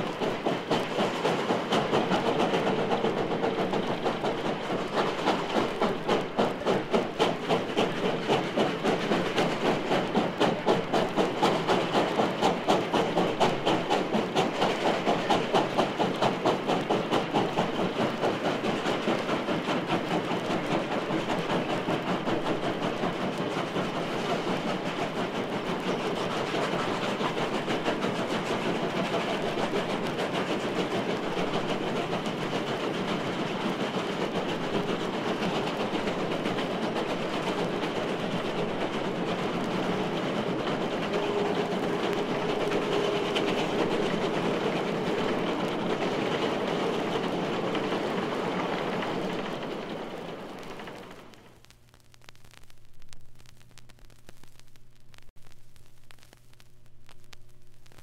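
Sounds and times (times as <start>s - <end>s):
rail noise: 0.0s - 51.6s
steam locomotive exhaust beat: 0.0s - 51.8s.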